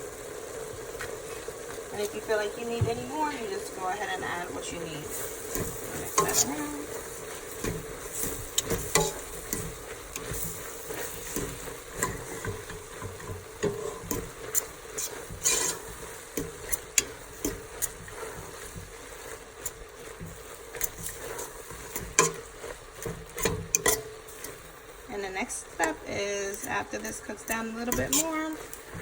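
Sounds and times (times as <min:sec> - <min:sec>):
meat sizzling in oil: 0:00.0 - 0:29.0
utensil scraping pot: 0:02.9 - 0:29.0.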